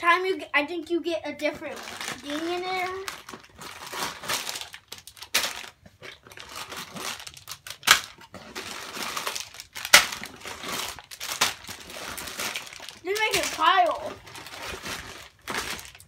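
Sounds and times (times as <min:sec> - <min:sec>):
plastic packaging crinkling: 0:01.6 - 0:16.0.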